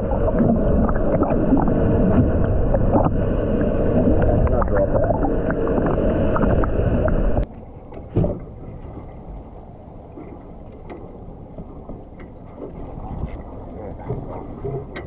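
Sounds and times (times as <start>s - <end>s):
muffled underwater water rush: 0.0s - 15.0s
water lapping beside boat: 0.0s - 15.0s.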